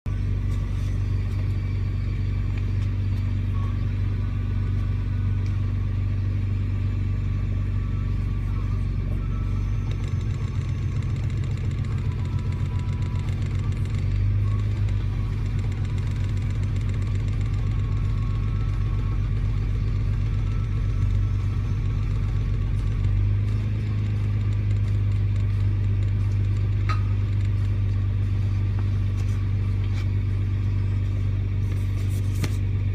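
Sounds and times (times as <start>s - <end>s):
car engine idling roughly: 0.1s - 32.9s.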